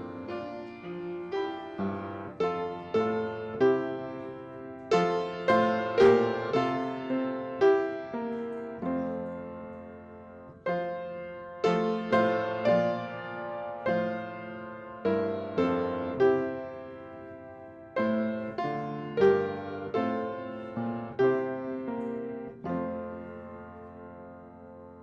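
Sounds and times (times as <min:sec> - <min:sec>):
slow solo piano chords: 0:00.0 - 0:25.0.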